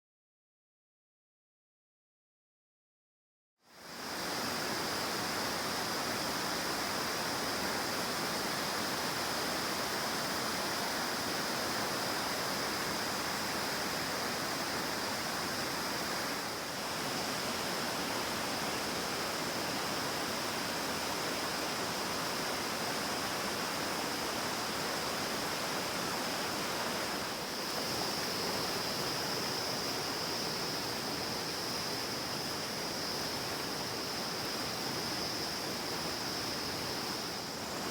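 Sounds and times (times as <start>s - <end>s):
river rushing: 3.9s - 37.9s.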